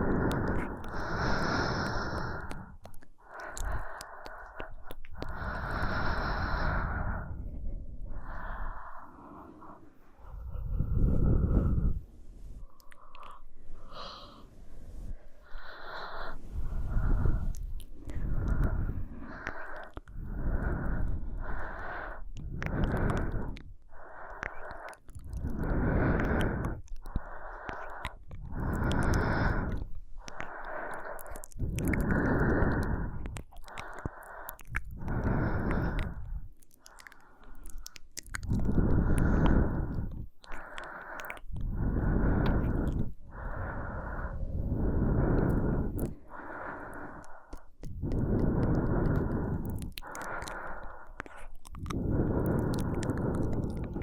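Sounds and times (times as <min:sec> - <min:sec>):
woman breathing slowly: 0:00.0 - 0:54.0.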